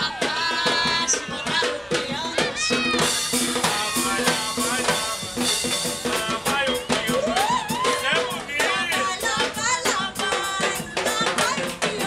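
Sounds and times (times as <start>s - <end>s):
latin percussion music: 0.0s - 12.0s.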